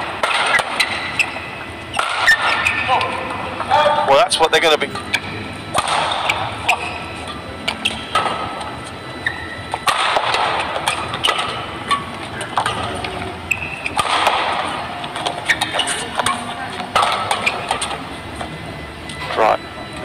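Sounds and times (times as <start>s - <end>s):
rackets hitting shuttlecock: 0.1s - 3.8s, 4.9s - 8.8s, 9.7s - 18.5s.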